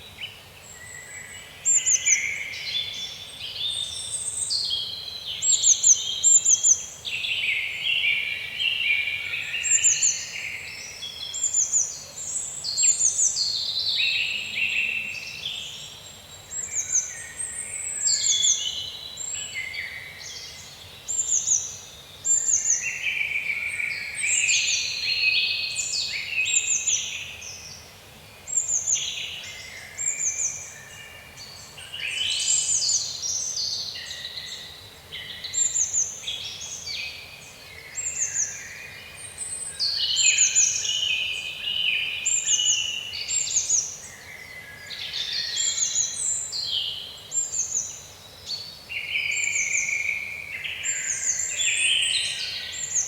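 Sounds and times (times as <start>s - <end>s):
faint steady background hiss: 0.0s - 53.0s
songbirds singing: 0.0s - 53.0s.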